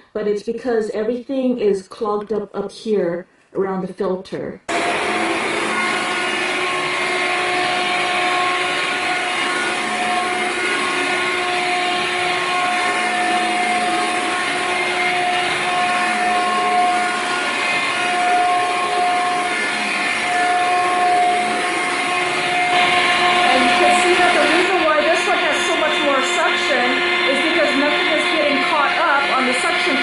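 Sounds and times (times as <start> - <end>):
stick vacuum running: 4.7 - 30.0.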